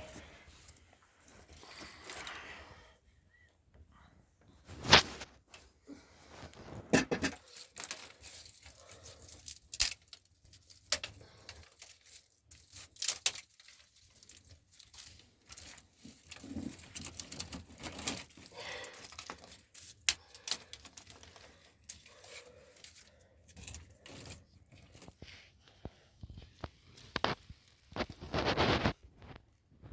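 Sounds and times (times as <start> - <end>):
rustling and scraping: 0.0 - 2.9, 4.4 - 29.9.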